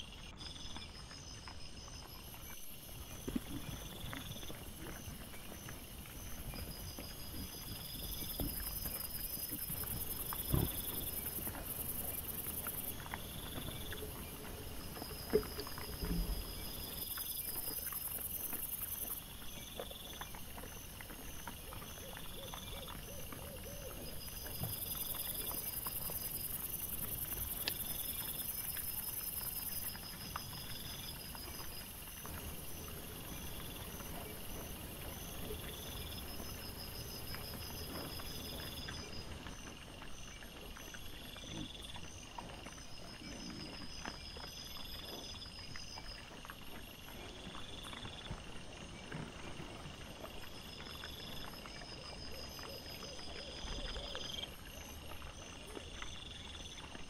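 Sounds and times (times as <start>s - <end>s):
night insects pulsing: 0.0s - 57.0s
animals knocking and rustling: 2.0s - 57.0s.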